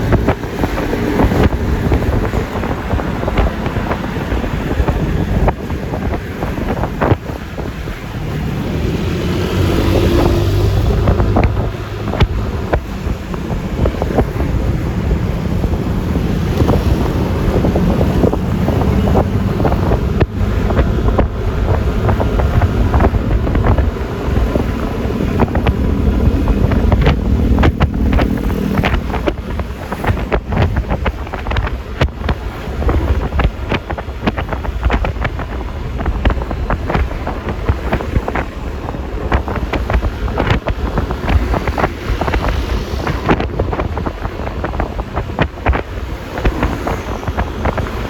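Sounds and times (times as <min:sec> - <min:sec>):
road noise: 0:00.0 - 0:48.0
scooter engine drone: 0:00.0 - 0:48.0
wind buffeting microphone: 0:00.0 - 0:48.0.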